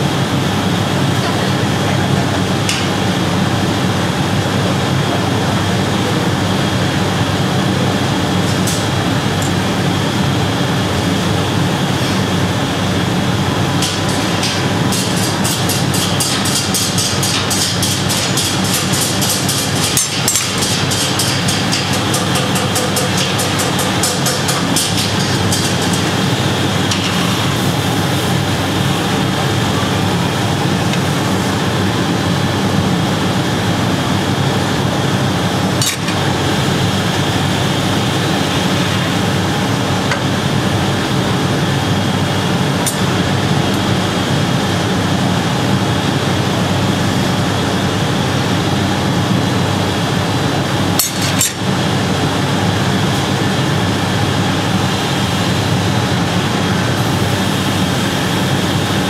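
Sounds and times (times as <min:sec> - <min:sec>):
gas furnace burners roaring: 0:00.0 - 0:59.0.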